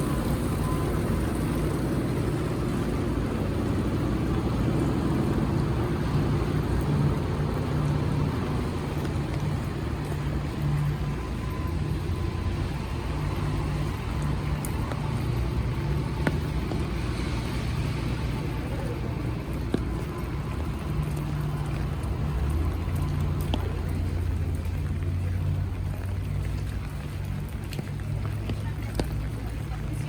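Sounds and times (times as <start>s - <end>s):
cars passing on wet road: 0.0s - 30.0s
low engine rumble: 0.0s - 30.0s
rain hiss: 0.0s - 30.0s.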